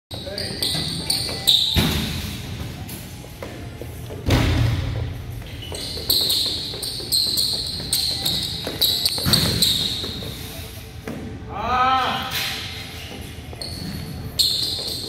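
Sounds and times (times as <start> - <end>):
shoes squeaking on gym floor: 0.1 - 4.2, 5.0 - 11.0, 12.6 - 15.0.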